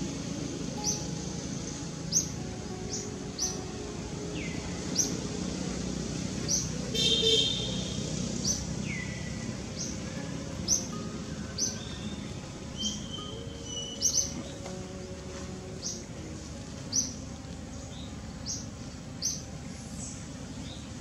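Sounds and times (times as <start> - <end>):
birds chirping: 0.0 - 21.0
steady hiss: 0.0 - 21.0.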